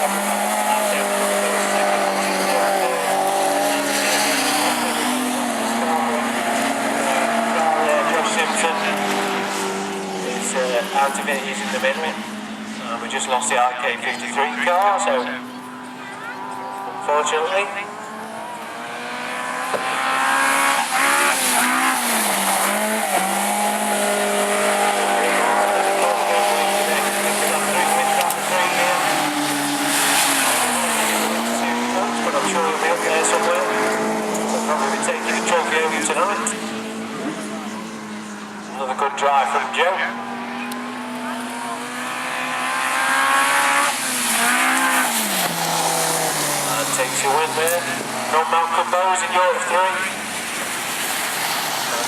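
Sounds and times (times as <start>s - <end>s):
race car engines passing: 0.0s - 52.0s.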